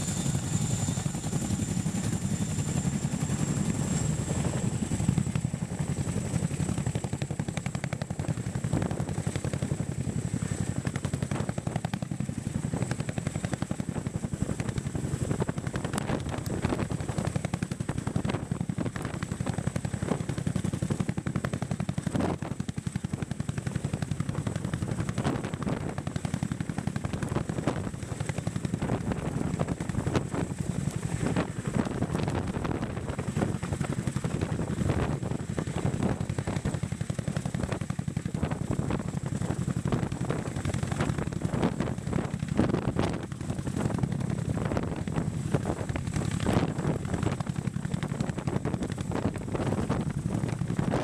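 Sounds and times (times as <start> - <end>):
helicopter rotors chopping: 0.0 - 51.0
wind buffeting microphone: 0.0 - 51.0.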